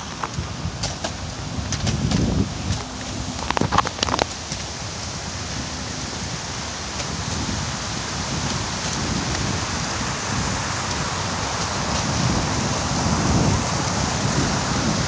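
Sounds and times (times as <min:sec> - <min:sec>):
wind buffeting microphone: 0:00.0 - 0:15.0
fountain splashing into a pool: 0:02.2 - 0:15.0.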